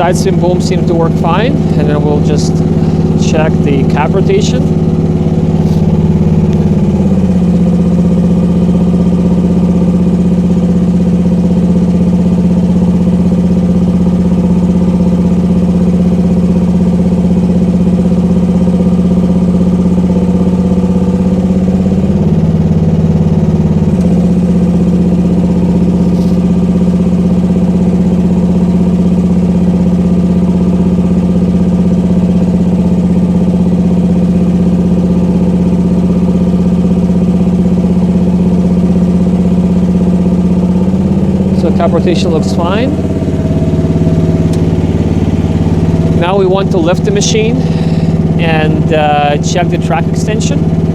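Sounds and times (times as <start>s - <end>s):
small gasoline engine running: 0.0s - 50.9s.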